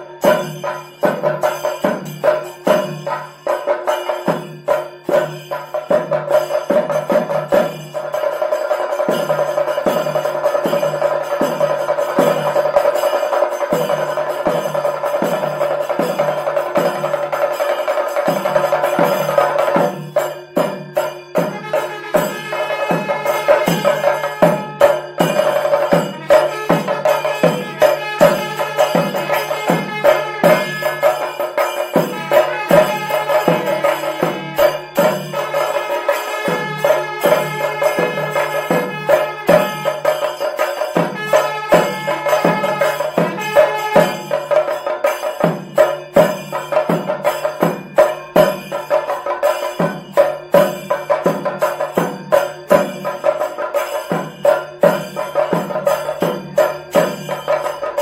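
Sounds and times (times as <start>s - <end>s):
drums struck with sticks: 0.0s - 58.0s.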